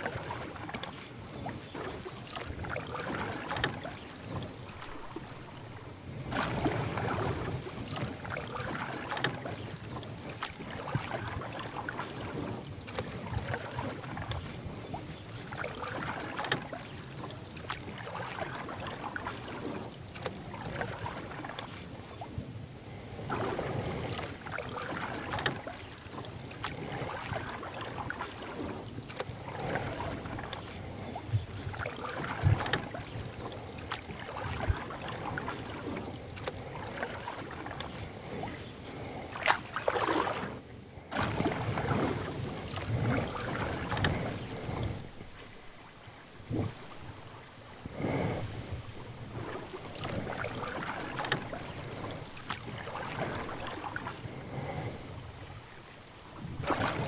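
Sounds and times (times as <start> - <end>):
paddle splashing in water: 0.0 - 57.0.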